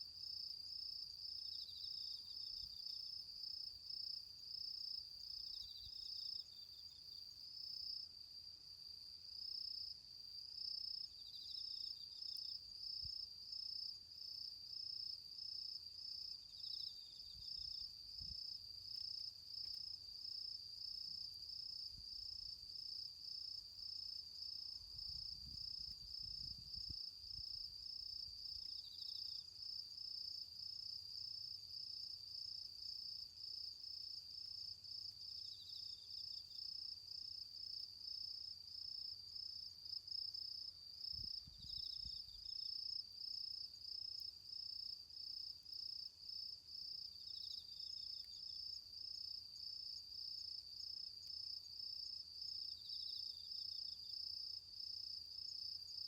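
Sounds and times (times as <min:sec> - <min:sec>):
cricket chirping: 0:00.0 - 0:56.0
low-pitched insect trills: 0:00.0 - 0:56.0.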